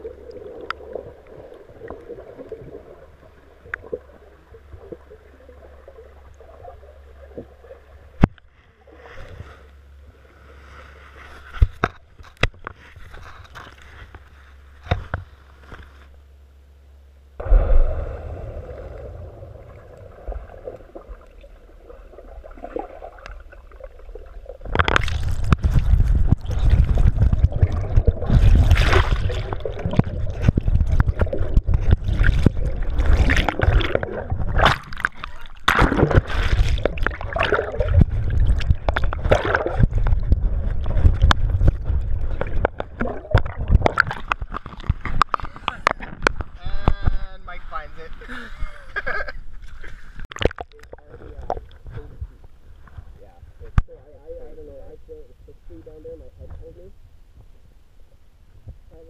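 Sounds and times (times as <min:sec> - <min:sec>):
underwater bubbling and gurgling: 0:00.0 - 0:15.7, 0:17.4 - 0:47.2, 0:49.6 - 0:53.9.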